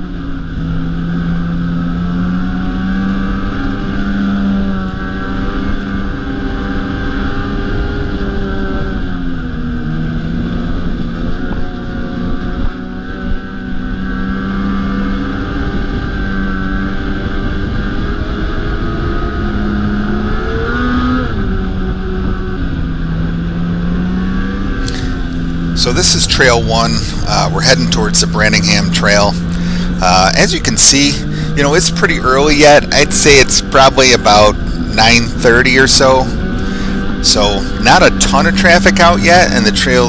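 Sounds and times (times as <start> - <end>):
snowmobile engine droning: 0.0 - 40.0.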